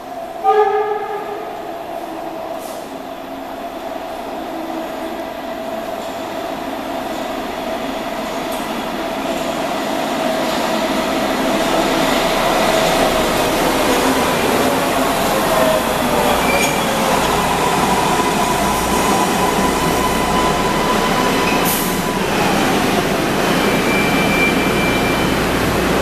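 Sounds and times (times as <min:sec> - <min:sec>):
train pulling into station: 0:00.0 - 0:26.0.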